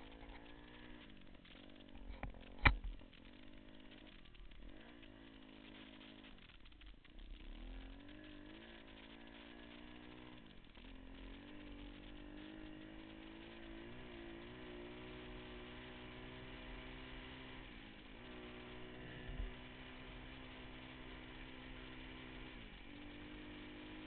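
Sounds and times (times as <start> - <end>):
pit bike engine running: 0.0 - 24.0.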